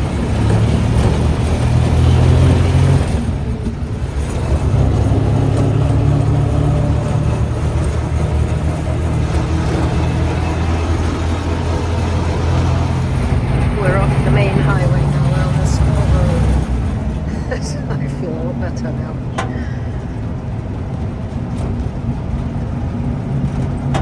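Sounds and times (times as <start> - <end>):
road and wind noise: 0.0 - 24.0.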